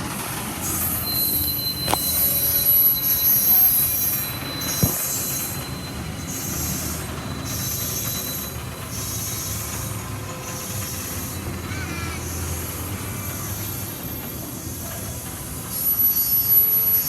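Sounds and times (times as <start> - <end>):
low train rumble: 0.0 - 17.0
train wheels squealing: 0.1 - 17.0.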